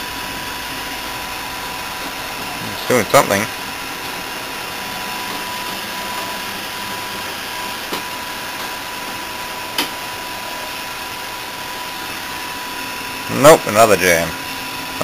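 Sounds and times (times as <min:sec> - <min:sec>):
photocopier humming: 0:00.0 - 0:15.0.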